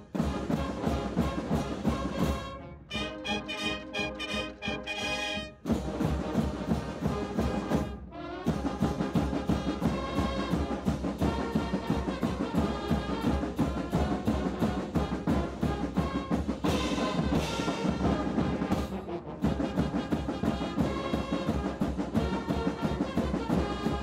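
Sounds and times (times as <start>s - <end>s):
brass band playing a march: 0.0s - 24.0s.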